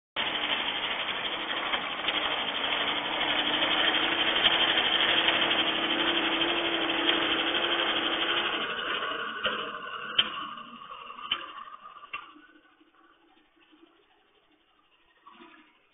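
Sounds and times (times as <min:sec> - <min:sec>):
diesel engine running: 0:00.2 - 0:13.6.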